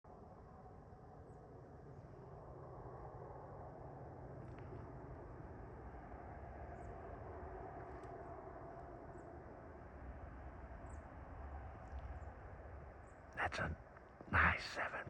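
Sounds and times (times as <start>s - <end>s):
faint hum: 0.1s - 15.0s.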